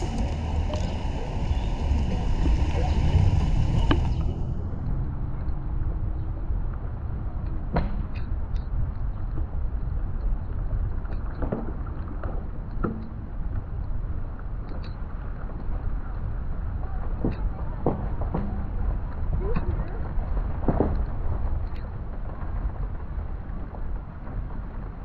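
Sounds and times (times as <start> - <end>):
tyre noise on wet street: 0.0 - 25.0
wind on microphone: 0.0 - 25.0.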